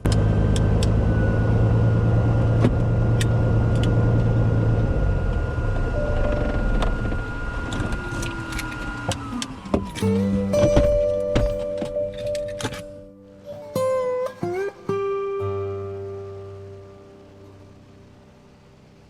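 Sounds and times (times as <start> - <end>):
engine drone in vehicle cabin: 0.0 - 13.4, 15.4 - 19.0.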